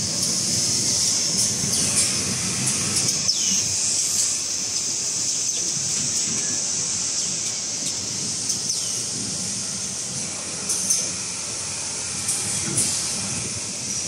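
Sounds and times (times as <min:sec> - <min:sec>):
machine hiss and rumble: 0:00.0 - 0:14.0.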